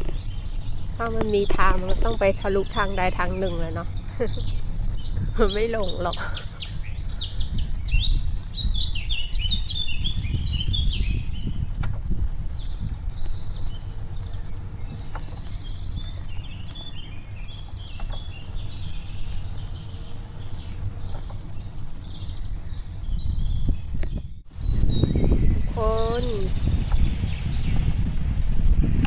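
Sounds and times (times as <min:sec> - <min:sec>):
bicycle riding rumble: 0:00.0 - 0:29.0
songbirds chirping and trilling: 0:00.0 - 0:29.0
wind on microphone: 0:00.0 - 0:29.0.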